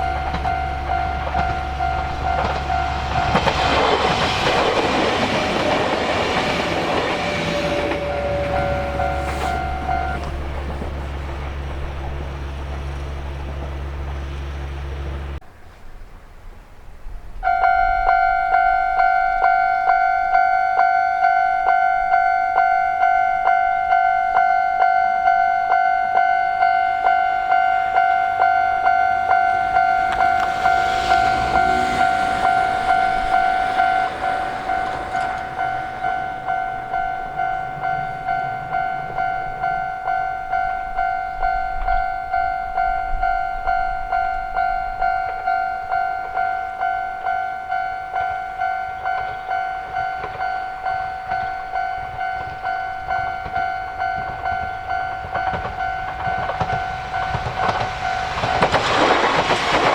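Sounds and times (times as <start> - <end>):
railroad crossing bell clanging: 0.0 - 15.4, 17.4 - 59.9
train rushing past: 0.0 - 15.4, 24.9 - 59.9.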